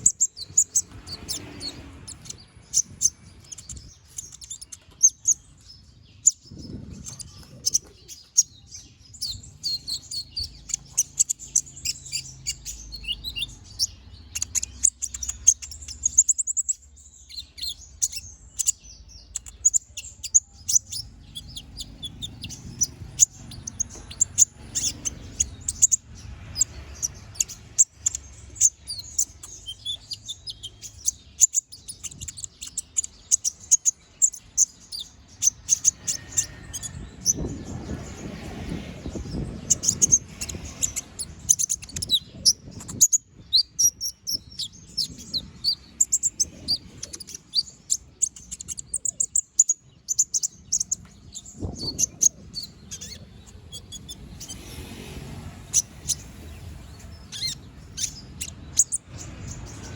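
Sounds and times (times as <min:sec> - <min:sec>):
sunbird chirping song: 0:00.0 - 0:59.9.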